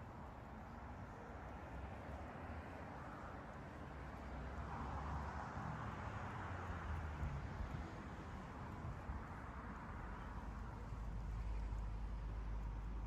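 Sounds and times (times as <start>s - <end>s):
low traffic rumble: 0.0s - 13.0s
passing vehicle tyre noise: 0.0s - 13.0s.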